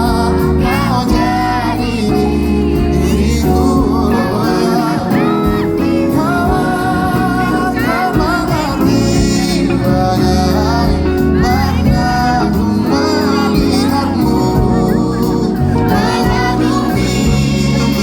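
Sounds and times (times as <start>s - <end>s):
live band playing pop song: 0.0s - 18.0s
person singing: 0.0s - 18.0s.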